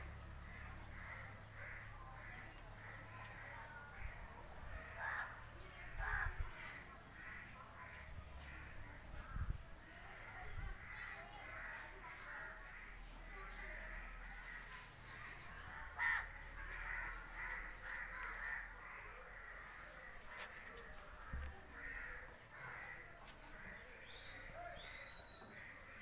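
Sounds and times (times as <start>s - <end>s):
birds calling: 0.0s - 9.4s, 10.0s - 26.0s.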